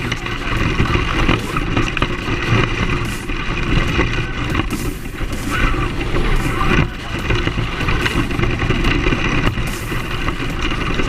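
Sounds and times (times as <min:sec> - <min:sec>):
rc truck motor and tyres rumbling: 0:00.0 - 0:11.0.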